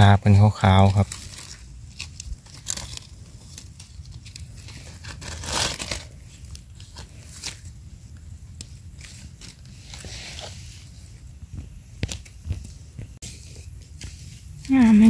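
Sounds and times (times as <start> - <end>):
dry leaves crackling and rustling: 0.0 - 11.3, 13.2 - 15.0.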